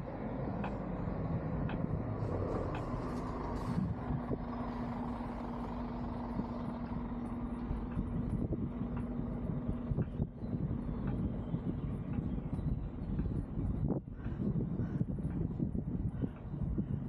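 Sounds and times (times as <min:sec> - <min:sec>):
street traffic rumble: 0:00.0 - 0:17.0
vehicle engine humming: 0:00.0 - 0:17.0.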